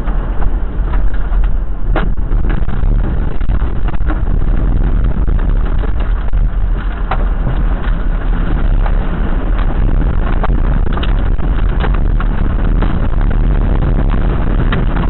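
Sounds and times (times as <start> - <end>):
vehicle rumbling on road: 0.0 - 15.0.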